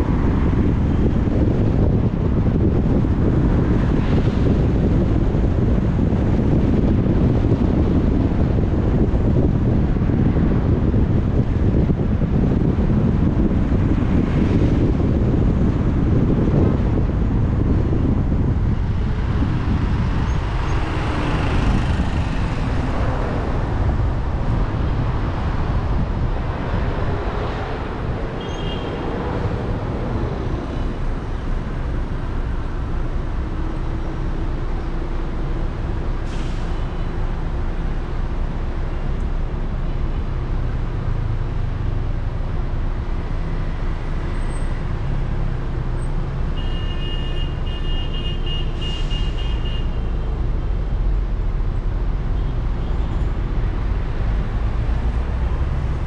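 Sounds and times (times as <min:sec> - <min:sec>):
low traffic rumble: 0:00.0 - 0:56.0
vehicles passing: 0:00.0 - 0:56.0.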